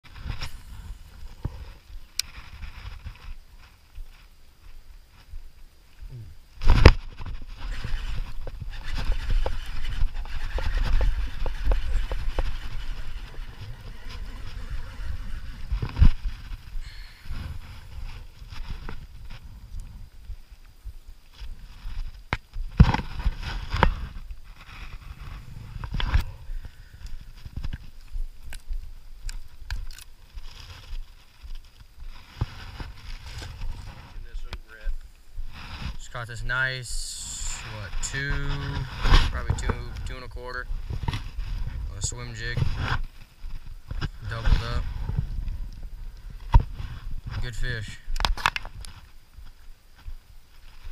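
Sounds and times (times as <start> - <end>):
wind and handling rumble: 0.0 - 50.9.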